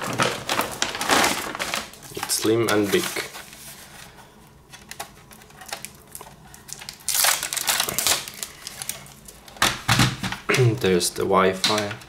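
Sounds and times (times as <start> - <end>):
plastic film crackling: 0.0 - 9.8.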